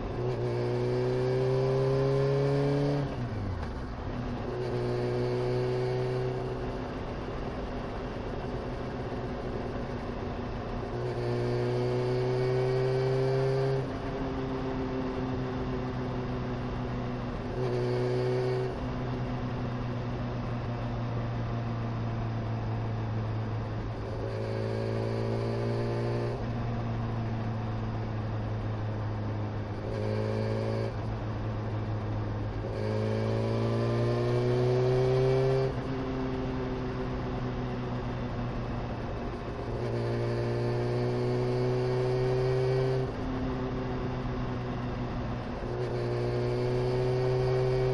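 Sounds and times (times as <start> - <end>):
motorcycle engine revving: 0.0 - 7.4, 8.1 - 47.9.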